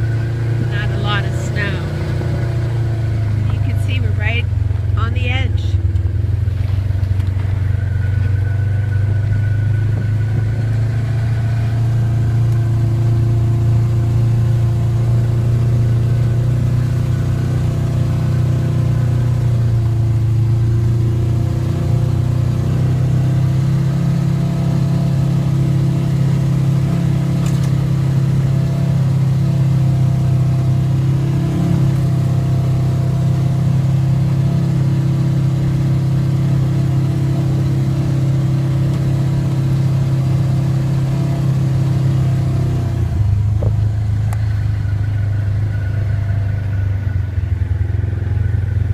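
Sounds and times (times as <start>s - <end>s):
atv engine running: 0.0s - 48.9s.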